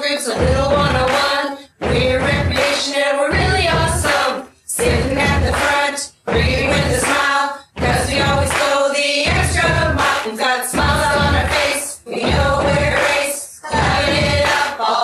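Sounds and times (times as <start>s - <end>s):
pop song with group singing: 0.0s - 15.0s.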